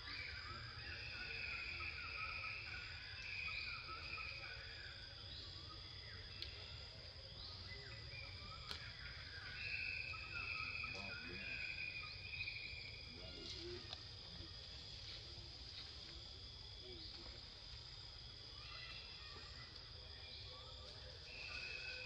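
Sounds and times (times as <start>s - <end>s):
lower insect buzz layer: 0.0s - 22.0s.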